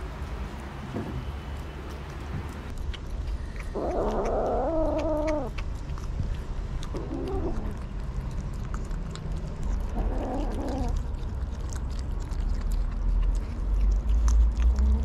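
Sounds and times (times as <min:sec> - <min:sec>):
kittens chewing food: 0:00.0 - 0:15.0.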